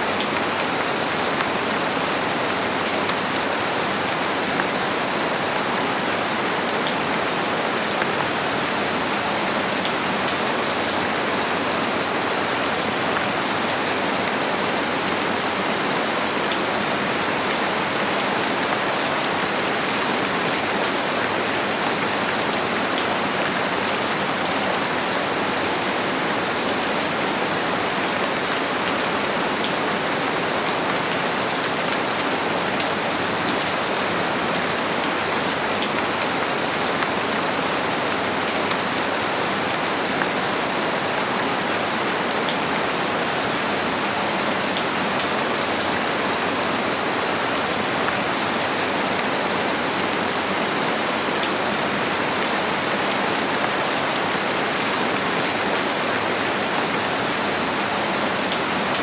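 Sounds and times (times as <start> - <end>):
heavy rain on a surface: 0.0 - 59.0.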